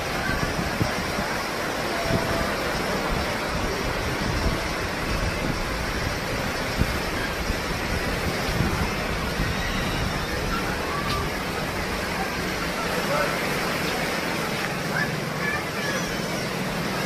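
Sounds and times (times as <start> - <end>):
wind buffeting microphone: 0.0 - 14.9
sea surf: 0.0 - 17.0.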